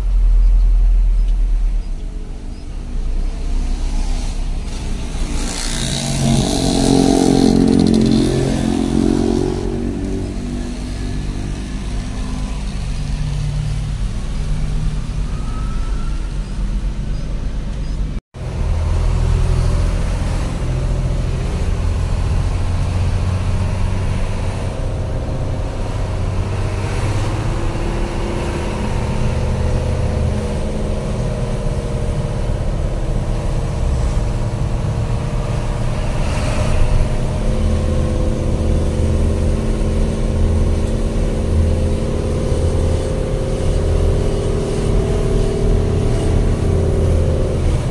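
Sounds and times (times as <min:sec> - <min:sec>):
road noise: 0:00.0 - 0:47.9.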